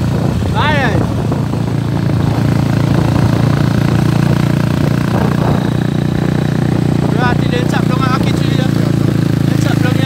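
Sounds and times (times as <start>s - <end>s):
motorcycle engine running: 0.0s - 10.0s
wind rumbling on microphone: 0.0s - 10.0s.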